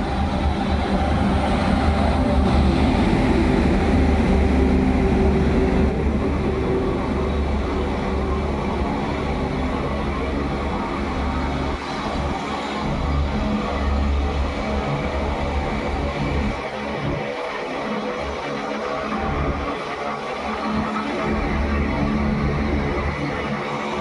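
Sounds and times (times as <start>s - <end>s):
sustained droning tones: 0.0s - 24.0s.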